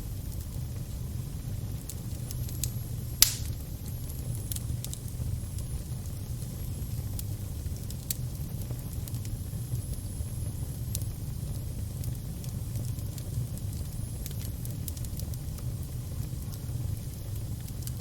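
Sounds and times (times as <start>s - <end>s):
fire crackling pops: 0.0s - 18.0s
fire rumbling: 0.0s - 18.0s.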